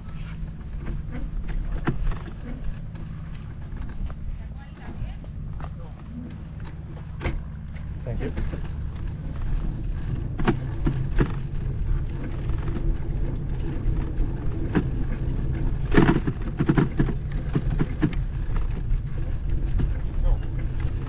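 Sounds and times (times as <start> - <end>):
knocks and rattles: 0.1 - 21.0.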